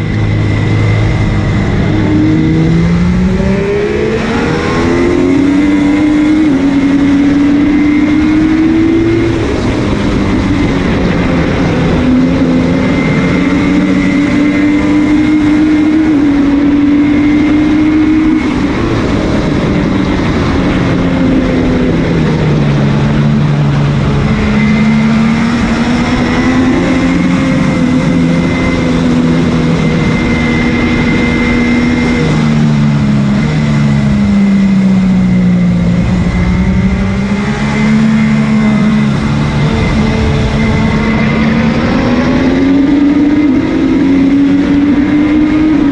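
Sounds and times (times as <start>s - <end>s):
motorcycle engine at racing speed: 0.0s - 45.9s
wind rush over microphone: 0.0s - 45.9s.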